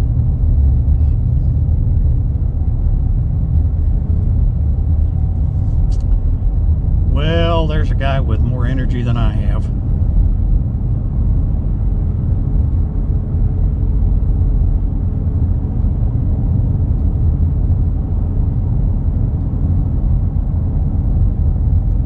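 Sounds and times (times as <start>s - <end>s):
truck driving on rough road: 0.0s - 22.0s.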